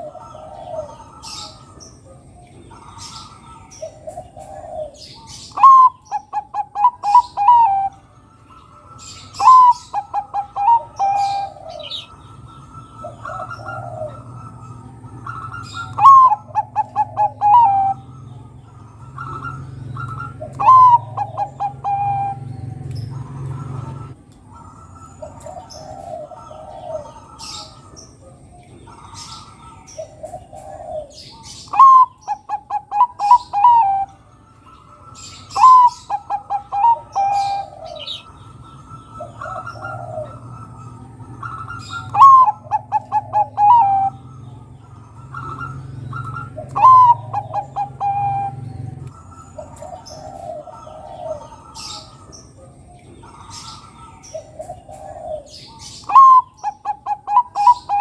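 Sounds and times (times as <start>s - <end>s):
soft dove cooing: 0.0s - 8.0s, 9.4s - 12.2s, 12.9s - 18.1s, 19.0s - 34.2s, 35.2s - 44.3s, 44.9s - 58.0s
dove staccato cooing song: 0.0s - 58.0s.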